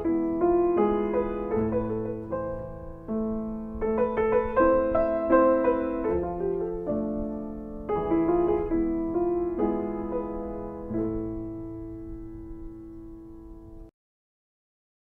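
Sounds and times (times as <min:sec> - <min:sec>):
slow solo piano: 0:00.0 - 0:13.9.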